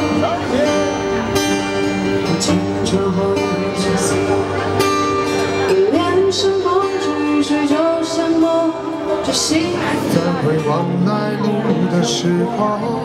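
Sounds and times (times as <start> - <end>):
acoustic guitar playing: 0.0 - 13.0
person singing: 0.0 - 13.0.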